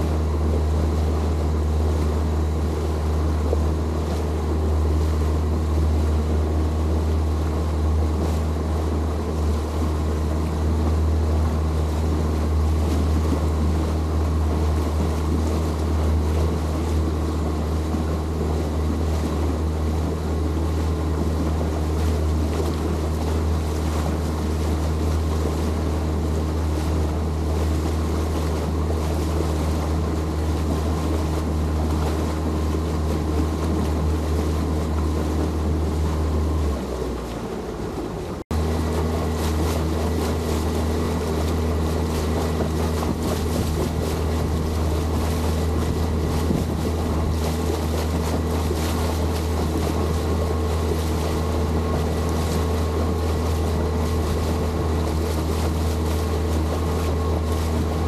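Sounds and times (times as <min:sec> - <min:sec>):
boat motor drone: 0:00.0 - 0:58.0
water rushing wash: 0:00.0 - 0:58.0
wind: 0:00.0 - 0:58.0.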